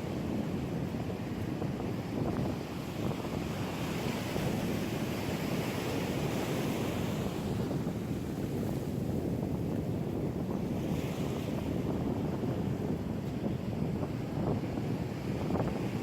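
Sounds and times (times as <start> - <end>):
ocean surf washing on shore: 0.0 - 16.0
wind buffeting microphone: 0.0 - 16.0.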